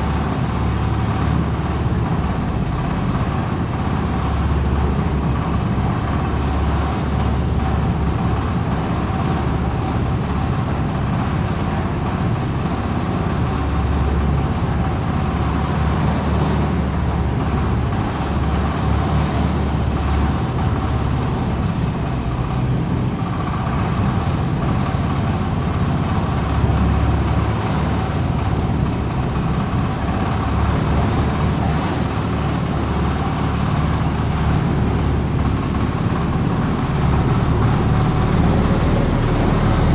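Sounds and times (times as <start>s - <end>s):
heavy engine low rumble: 0.0s - 39.9s.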